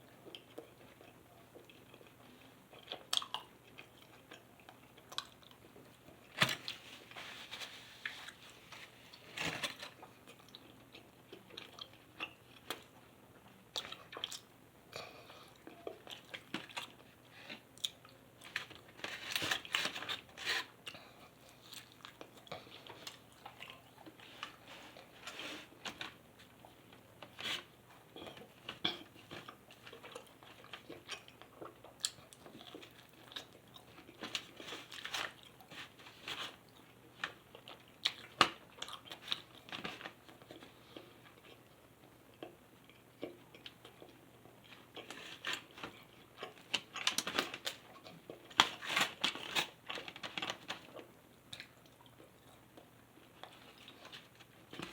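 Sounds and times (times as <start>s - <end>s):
person chewing food: 0.1s - 6.4s, 7.8s - 19.0s, 20.8s - 35.8s, 36.6s - 48.8s.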